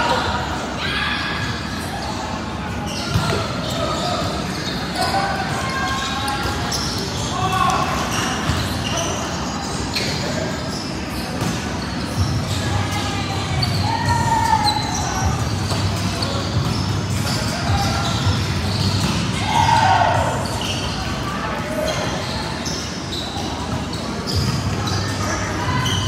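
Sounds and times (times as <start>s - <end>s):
players' voices and calls: 0.0s - 26.0s.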